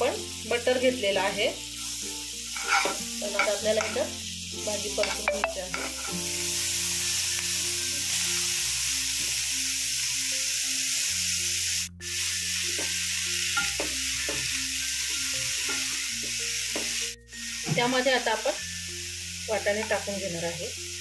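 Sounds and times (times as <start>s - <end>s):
leaves sizzling in butter: 0.0s - 21.0s.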